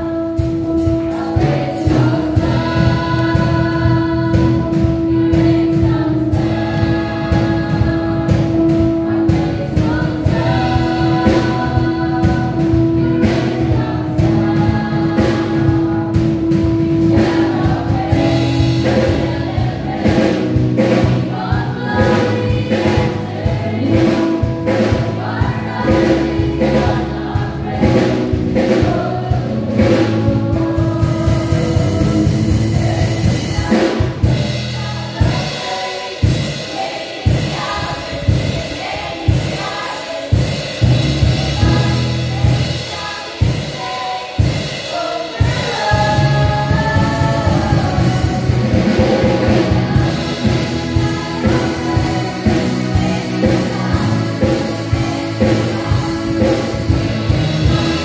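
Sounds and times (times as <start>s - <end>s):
choir singing gospel song: 0.0s - 58.0s
instrumental accompaniment with beat: 0.0s - 58.0s.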